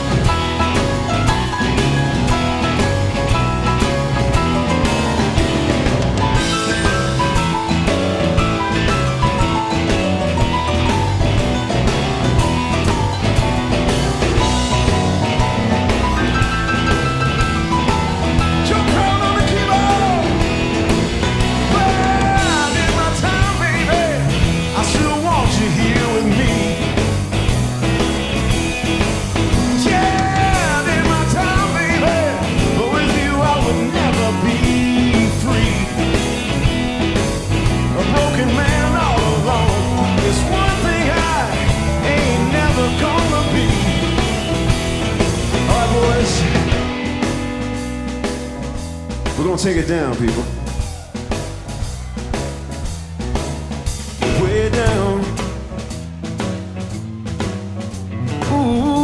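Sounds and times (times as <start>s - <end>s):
electric guitar bending notes: 0.0s - 56.4s
blues-rock band playing: 0.0s - 59.0s.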